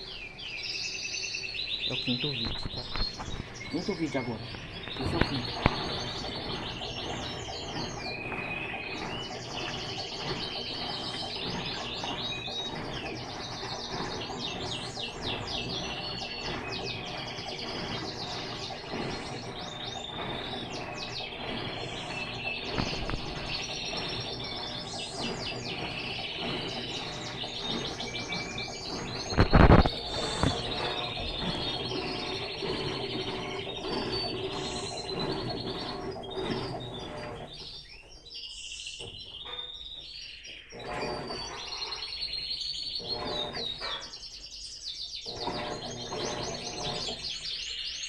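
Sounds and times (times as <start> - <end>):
small birds chirping and trilling: 0.0 - 48.0.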